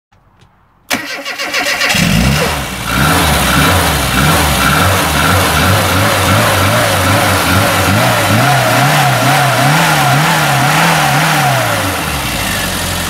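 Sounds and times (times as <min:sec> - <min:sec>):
car engine cranking and starting: 0:00.9 - 0:13.0.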